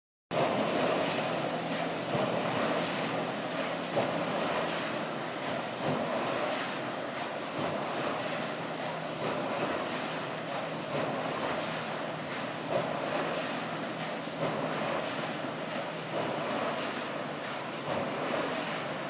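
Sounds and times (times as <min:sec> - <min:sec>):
water splashing through water wheel: 0:00.3 - 0:19.0.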